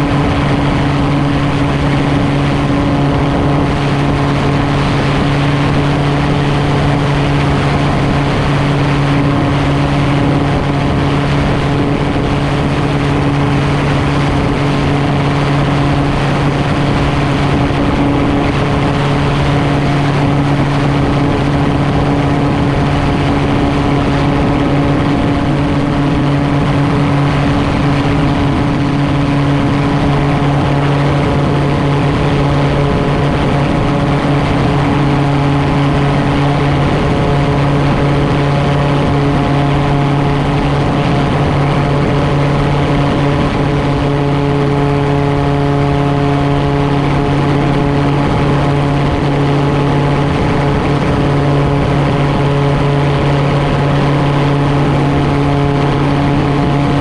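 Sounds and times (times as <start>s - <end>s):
gyroplane engine and propeller drone: 0.0s - 57.0s.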